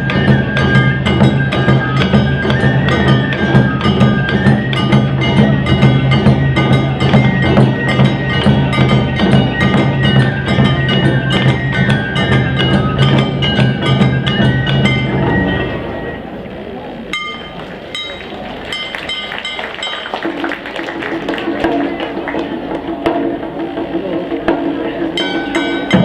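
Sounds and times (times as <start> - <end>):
hand gongs clanging: 0.0 - 16.4, 17.1 - 26.0
drums and instruments playing: 0.0 - 26.0.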